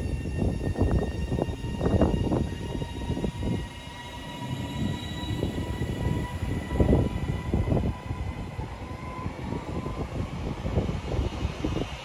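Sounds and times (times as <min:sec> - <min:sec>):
electric train traction whine: 0:00.0 - 0:11.9.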